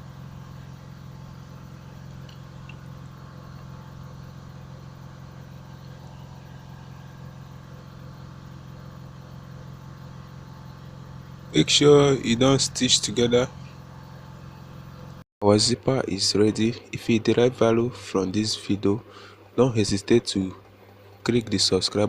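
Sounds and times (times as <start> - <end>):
motor humming: 0.0 - 15.2, 15.8 - 22.0.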